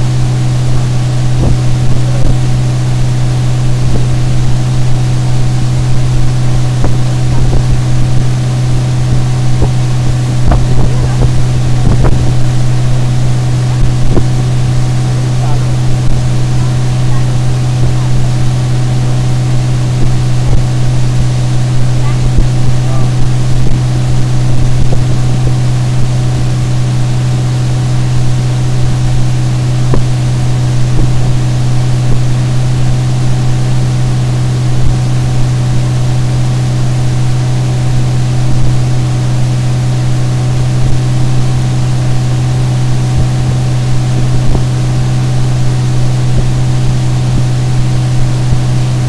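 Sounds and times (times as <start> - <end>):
outboard motor humming: 0.0 - 49.0
wind and water rushing: 0.0 - 49.0.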